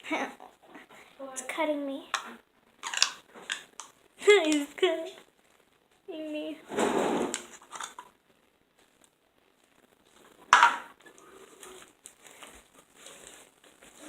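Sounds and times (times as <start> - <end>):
bowl crinkling and crackling: 0.0 - 14.0.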